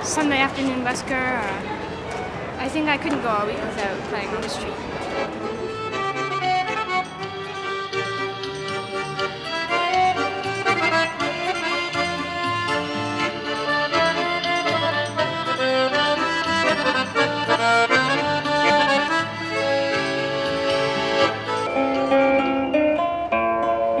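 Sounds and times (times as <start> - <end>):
piano accordion playing a tune: 3.4 - 22.8.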